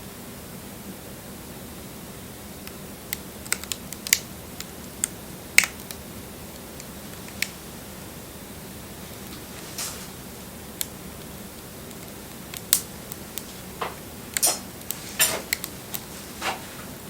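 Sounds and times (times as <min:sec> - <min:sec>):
fire low hiss: 0:02.3 - 0:17.0
wood fire popping and snapping: 0:02.6 - 0:17.0.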